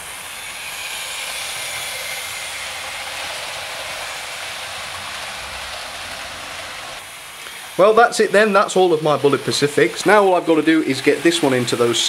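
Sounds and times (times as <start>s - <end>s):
model train whirring on rails: 0.0s - 12.0s.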